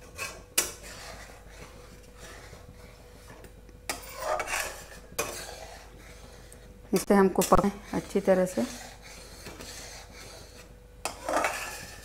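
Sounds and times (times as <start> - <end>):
metal spatula scraping pan: 0.0 - 12.0.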